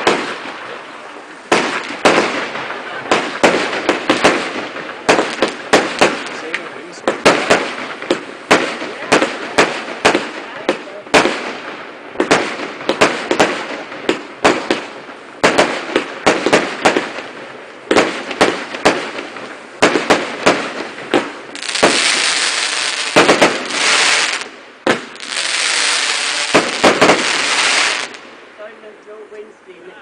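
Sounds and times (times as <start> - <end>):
firework crackling hiss: 0.0 - 28.5
firework bangs: 0.0 - 28.6.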